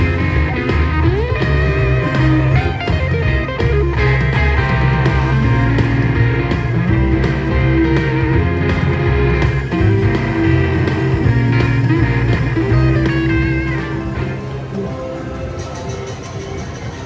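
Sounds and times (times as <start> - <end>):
guitar music with bass line: 0.0 - 16.9.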